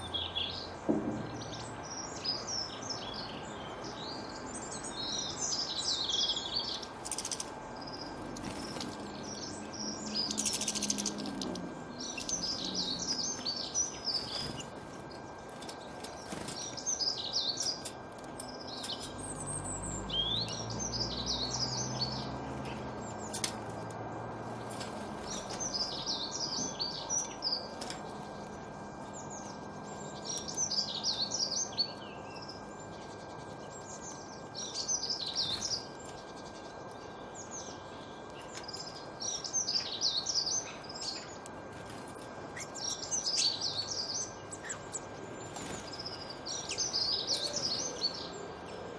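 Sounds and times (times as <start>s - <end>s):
small birds singing and chirping: 0.0s - 48.9s.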